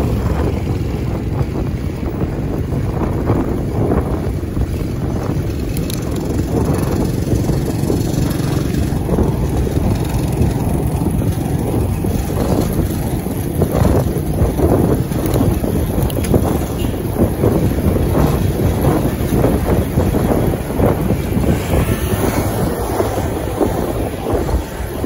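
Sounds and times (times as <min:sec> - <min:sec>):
street traffic: 0:00.0 - 0:25.0
wind rumble on microphone: 0:00.0 - 0:25.0.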